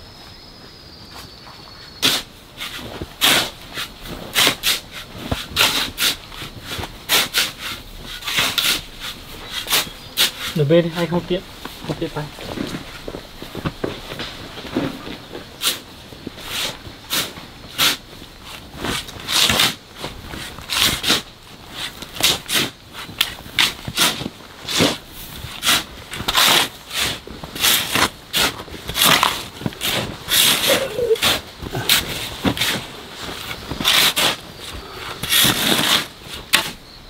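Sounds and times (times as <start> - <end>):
gritty scraping strokes: 2.0 - 36.8.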